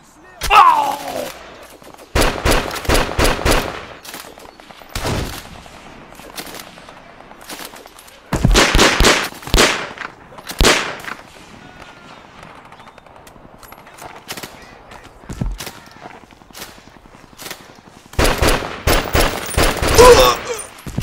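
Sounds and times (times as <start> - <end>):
gunshots: 0.4 - 13.1, 13.8 - 21.0.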